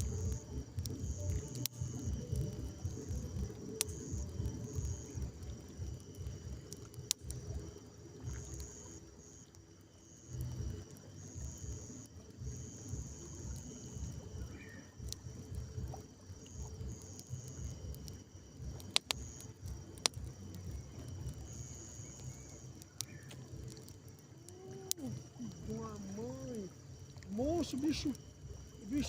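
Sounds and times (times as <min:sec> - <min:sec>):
low rumbling noise: 0:00.0 - 0:08.7, 0:10.4 - 0:27.6
campfire wood popping: 0:00.0 - 0:29.0
night insects trilling: 0:00.0 - 0:29.0.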